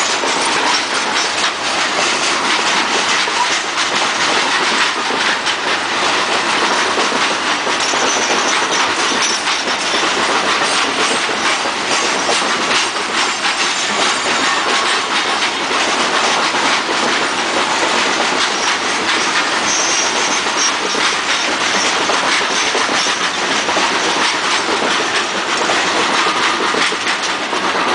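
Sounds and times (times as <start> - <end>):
wheels clattering over rail joints: 0.0 - 27.9.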